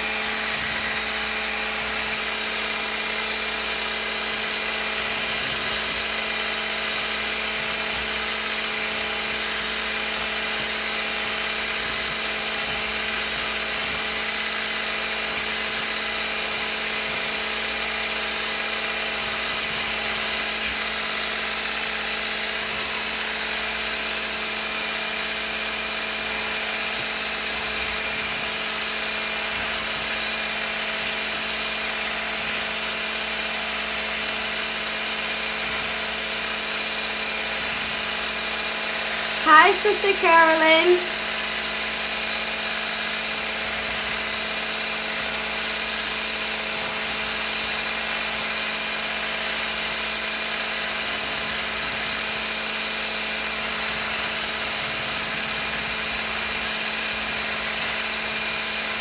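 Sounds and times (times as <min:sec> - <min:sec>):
electric hand blender whirring: 0:00.0 - 0:59.0.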